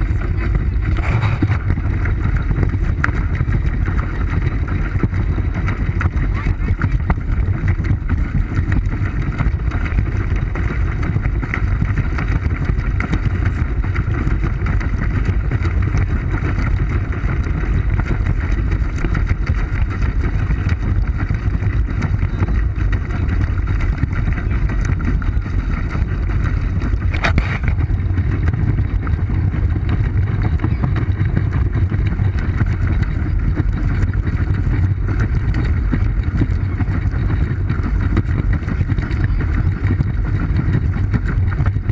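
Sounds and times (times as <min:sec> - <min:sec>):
pedal boat churning through water: 0:00.0 - 0:41.9.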